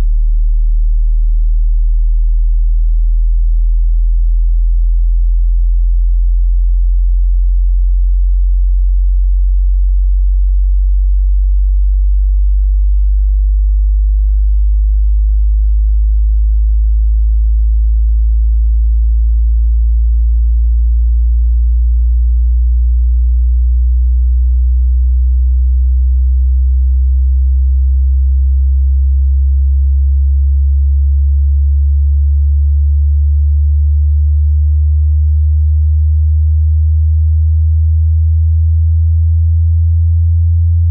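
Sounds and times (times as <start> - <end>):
rising bass sine tone: 0.0 - 40.9.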